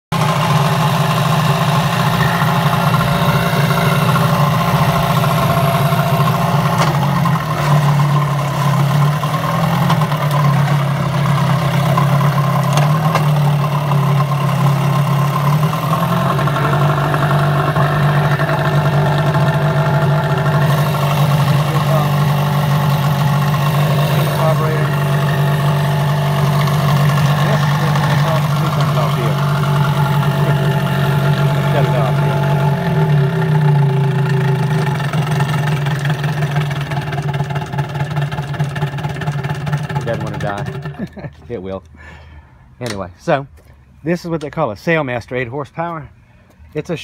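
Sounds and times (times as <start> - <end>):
outboard motor idling: 0.1 - 41.4.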